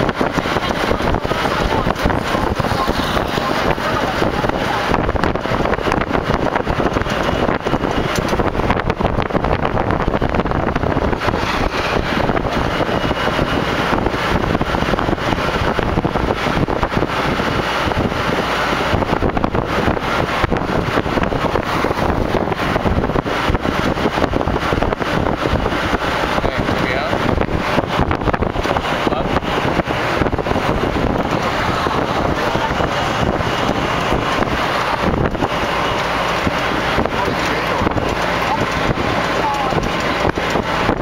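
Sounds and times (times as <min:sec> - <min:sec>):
vehicle road noise: 0:00.0 - 0:41.0
wind buffeting microphone: 0:00.0 - 0:41.0.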